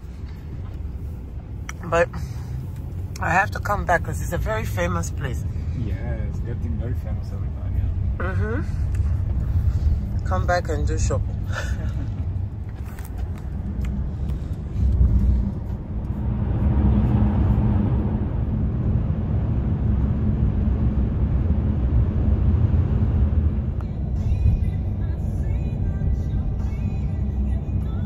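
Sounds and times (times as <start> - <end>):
car engine and tyre rumble: 0.0 - 28.0
road noise hiss: 0.0 - 28.0.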